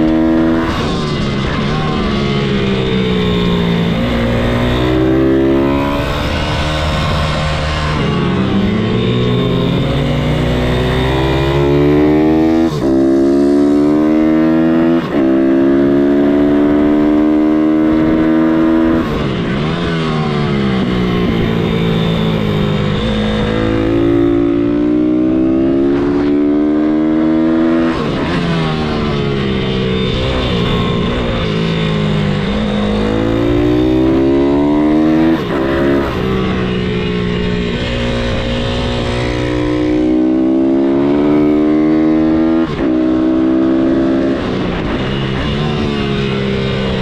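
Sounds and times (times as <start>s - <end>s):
motorbike engine revving: 0.0s - 47.0s.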